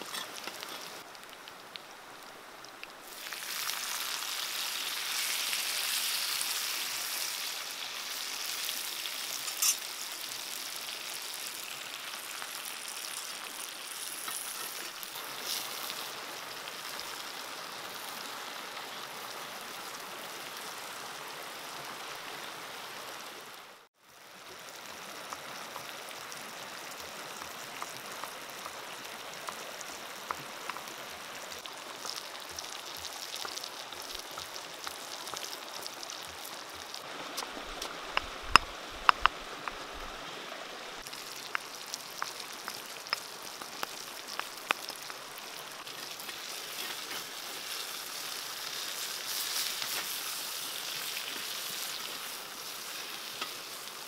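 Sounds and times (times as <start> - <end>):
steady hiss: 0.0 - 54.0
vegetables sizzling in oil: 0.0 - 54.0.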